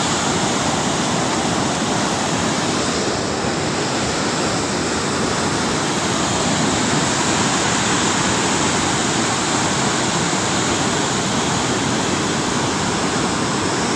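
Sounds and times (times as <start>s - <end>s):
river water rushing: 0.0s - 13.9s.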